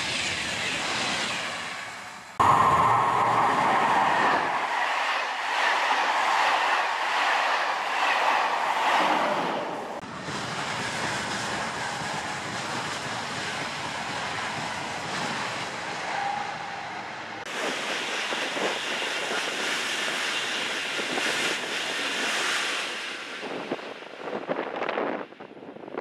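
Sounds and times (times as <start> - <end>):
high-speed train rushing past: 0.0 - 26.0
passenger train rolling past: 0.0 - 26.0.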